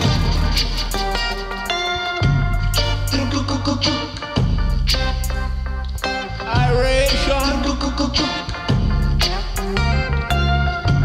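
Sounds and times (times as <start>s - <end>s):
deep bass line: 0.0s - 11.0s
electric guitars: 0.0s - 11.0s
keyboard: 0.0s - 11.0s.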